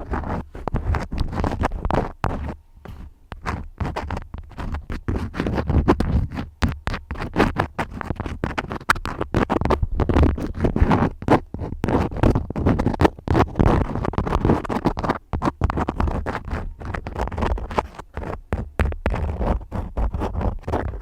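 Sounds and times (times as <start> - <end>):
crayons scratching on paper: 0.0 - 21.0.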